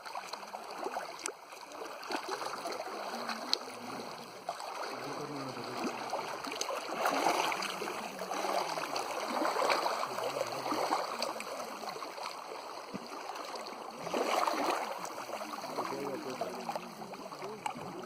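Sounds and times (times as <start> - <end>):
water splashing and lapping: 0.0 - 18.0.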